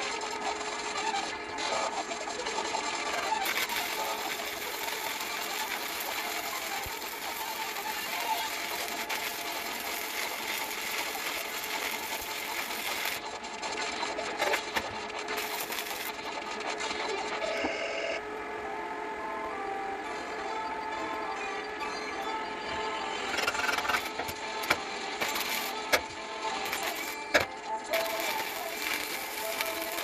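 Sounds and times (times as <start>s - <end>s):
welding arc crackling: 0.0s - 17.4s, 23.2s - 30.0s.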